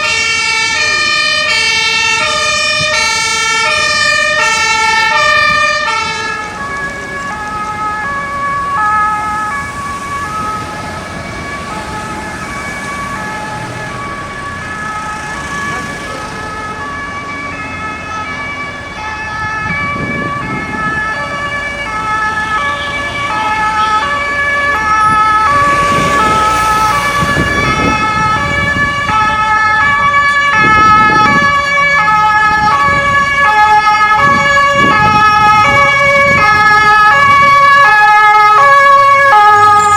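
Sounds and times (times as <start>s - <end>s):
passing vehicle engine and road noise: 0.0s - 39.9s
two-tone emergency sirens: 0.0s - 39.9s.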